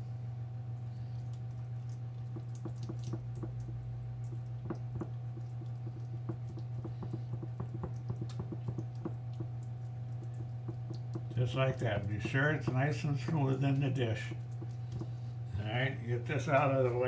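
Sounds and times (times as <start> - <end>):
steady low hum: 0.0 - 17.0
hand patting wet meat mixture: 0.9 - 17.0.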